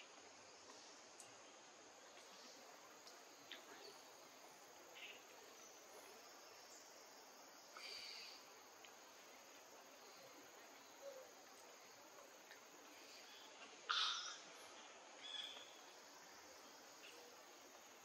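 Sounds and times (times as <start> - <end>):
high insect drone: 2.0 - 18.0.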